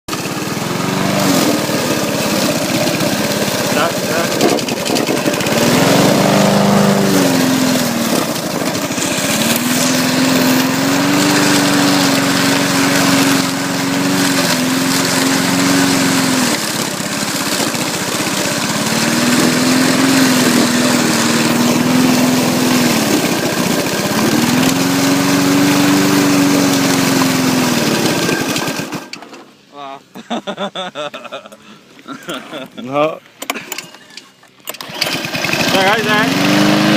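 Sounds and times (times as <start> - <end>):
lawn mower engine running: 0.1 - 29.7, 33.4 - 36.9.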